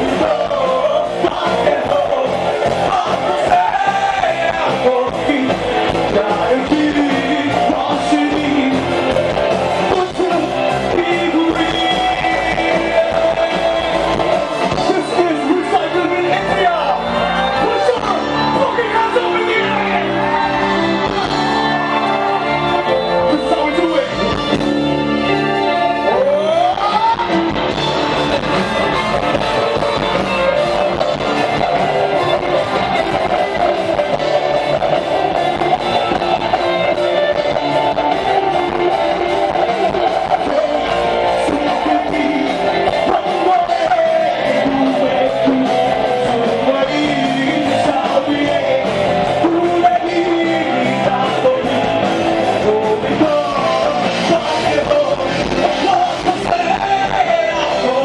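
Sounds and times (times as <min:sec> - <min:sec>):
man singing: 0:00.0 - 0:24.6, 0:25.2 - 0:30.8, 0:31.4 - 0:58.0
drum kit: 0:00.0 - 0:58.0
electric guitars: 0:00.0 - 0:58.0.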